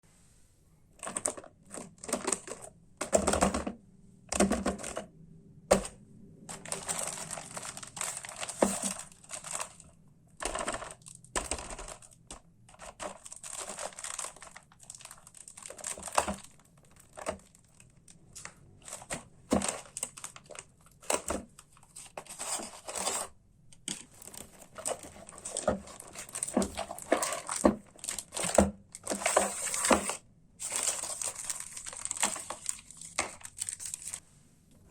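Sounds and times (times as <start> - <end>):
plastic and paper crinkling: 1.0 - 3.7, 5.7 - 34.2.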